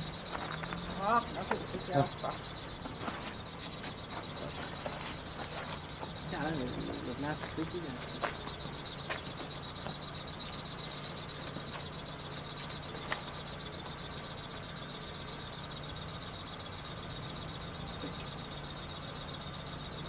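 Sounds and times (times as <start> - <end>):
street background noise: 0.0 - 20.0.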